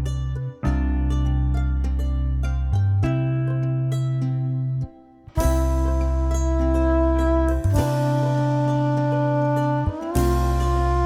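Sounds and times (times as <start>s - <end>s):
held chords over deep bass: 0.0s - 4.1s, 5.4s - 11.0s.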